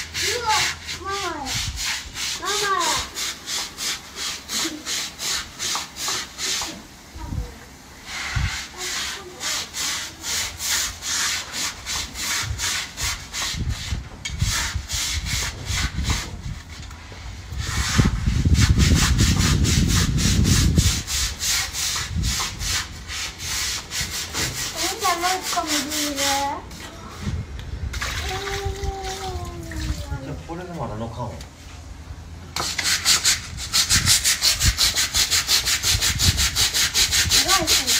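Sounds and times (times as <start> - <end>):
brush scrubbing wet concrete: 0.0 - 7.2, 8.0 - 31.2, 32.5 - 37.9.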